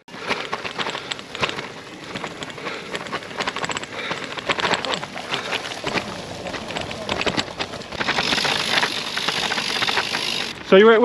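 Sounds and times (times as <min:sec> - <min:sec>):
bicycle rattles and knocks: 0:00.1 - 0:11.0
bicycle tyres crackling on frozen ground: 0:00.1 - 0:11.0.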